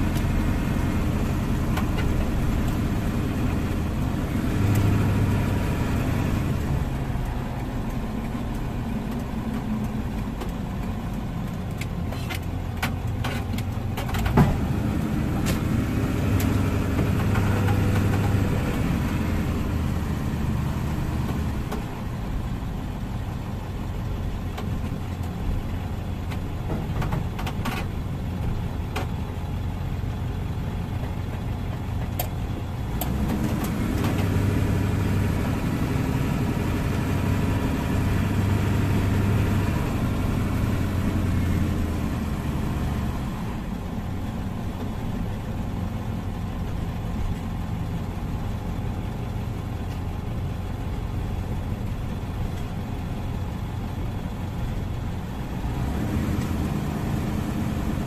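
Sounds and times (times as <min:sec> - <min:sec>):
car engine and tyre hum: 0:00.0 - 0:58.0.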